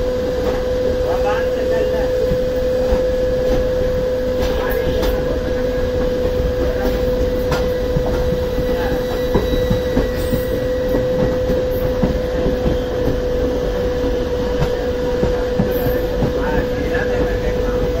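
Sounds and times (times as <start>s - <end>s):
train wheels rumbling over rail joints: 0.0s - 18.0s.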